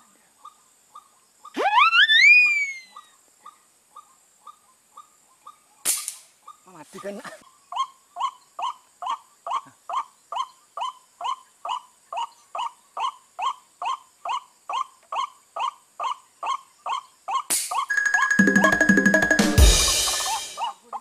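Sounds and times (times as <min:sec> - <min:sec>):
waterhen calling: 0:00.4 - 0:05.6, 0:07.4 - 0:21.0.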